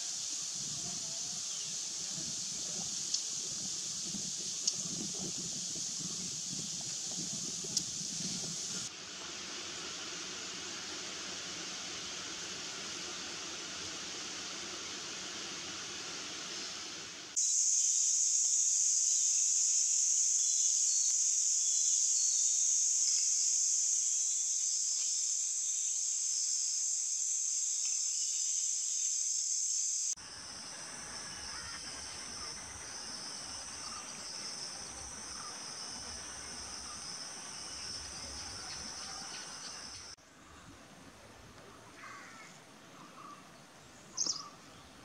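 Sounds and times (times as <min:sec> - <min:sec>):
insect chorus chirring: 0:00.0 - 0:08.9, 0:11.7 - 0:40.2
outdoor hiss: 0:00.0 - 0:45.0.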